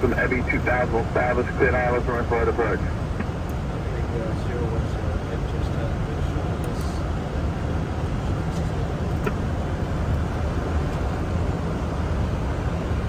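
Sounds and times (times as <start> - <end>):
airflow and engines rushing: 0.0 - 13.0.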